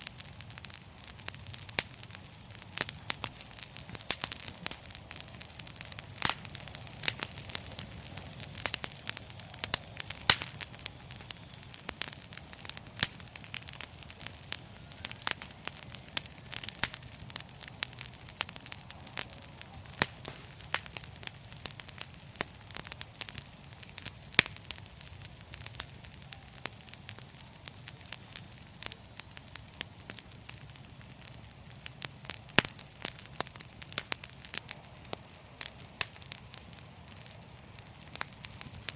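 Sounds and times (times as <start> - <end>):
low rush of flames: 0.0 - 38.9
wood fire crackling: 0.0 - 38.9.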